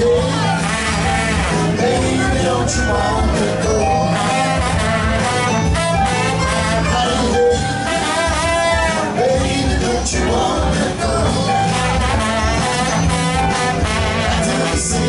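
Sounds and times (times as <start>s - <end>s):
bass line: 0.0s - 15.0s
live jazz band: 0.0s - 15.0s
saxophone and brass horns: 0.0s - 15.0s.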